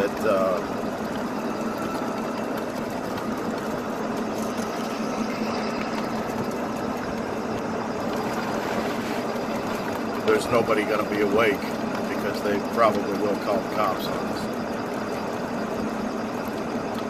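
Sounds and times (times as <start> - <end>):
golf cart motor humming: 0.0 - 17.0.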